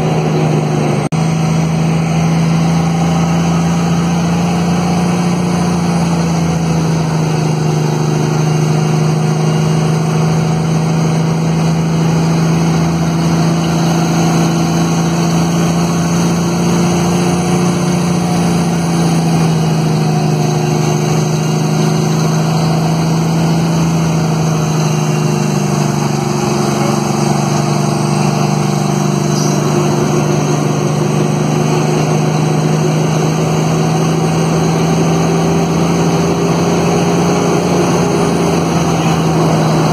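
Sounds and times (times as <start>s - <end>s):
truck engine brake droning: 0.0s - 39.9s.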